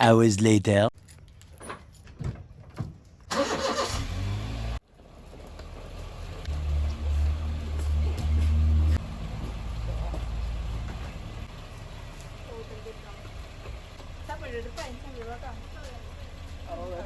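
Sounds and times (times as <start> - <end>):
vehicle engine rumbling: 1.0 - 17.0.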